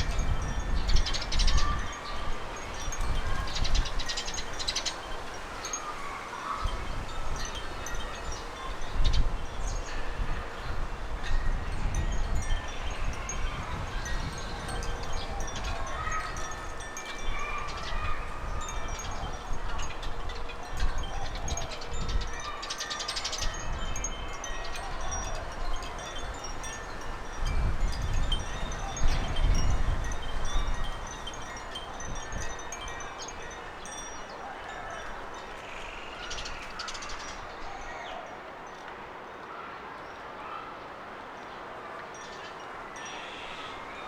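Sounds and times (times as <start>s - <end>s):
wind rumbling on microphone: 0.0s - 35.5s
small birds chirping and trilling: 0.0s - 44.0s.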